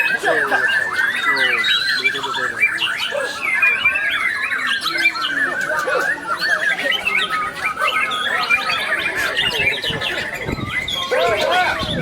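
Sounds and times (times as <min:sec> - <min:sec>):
birds singing whistles and trills: 0:00.0 - 0:12.0.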